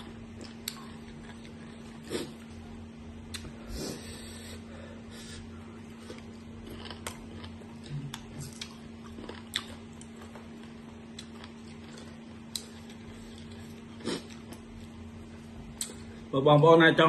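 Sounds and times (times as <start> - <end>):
people chewing crisp fruit: 0.0 - 16.3
steady low hum: 0.0 - 17.0.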